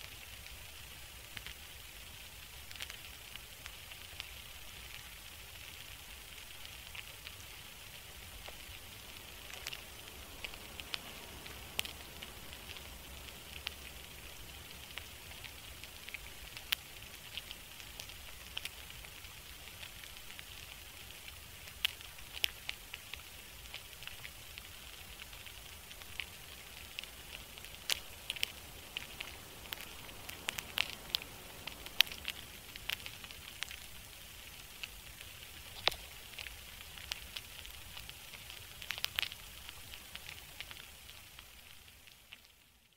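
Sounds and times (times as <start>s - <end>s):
sharp pops and crackles: 0.0s - 42.9s
steady hiss: 0.0s - 42.9s.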